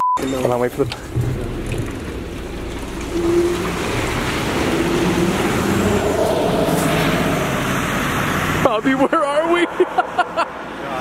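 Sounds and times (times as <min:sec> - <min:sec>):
bus engine pulling away: 0:00.9 - 0:11.0
tyres hissing on wet road: 0:01.1 - 0:11.0.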